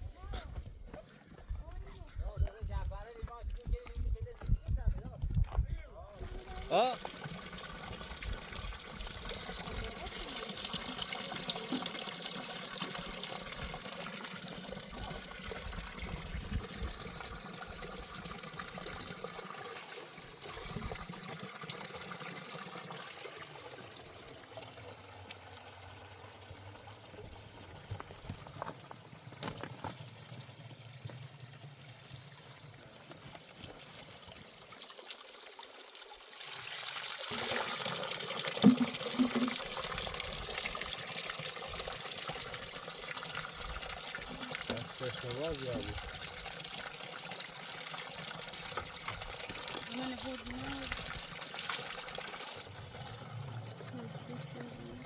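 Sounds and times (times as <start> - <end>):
water trickling: 6.2 - 55.0.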